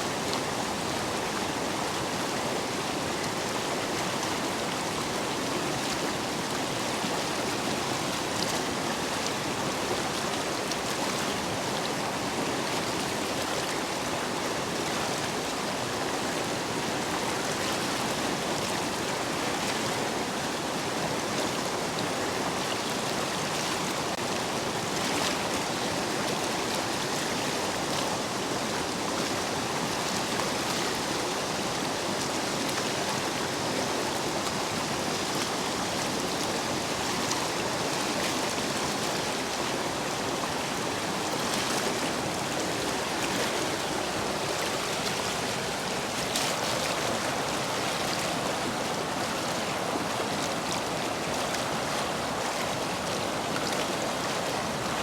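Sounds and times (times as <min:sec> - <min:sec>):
stream water rushing over stones: 0:00.0 - 0:55.0.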